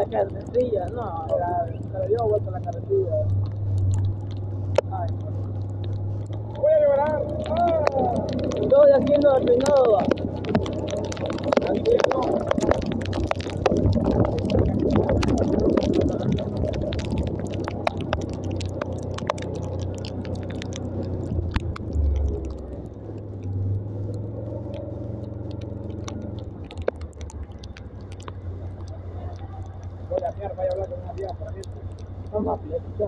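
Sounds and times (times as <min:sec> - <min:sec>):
sharp ticks: 0:00.0 - 0:33.0
tyres on wet road: 0:00.0 - 0:33.0.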